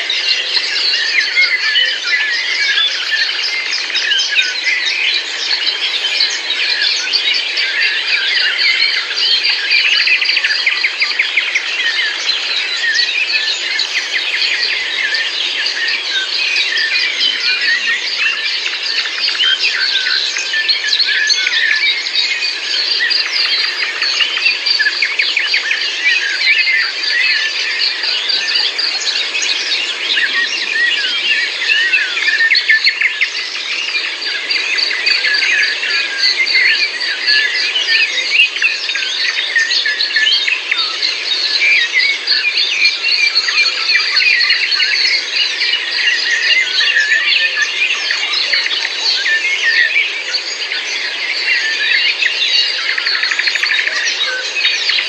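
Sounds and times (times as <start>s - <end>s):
chorus of birds chirping: 0.0s - 55.0s.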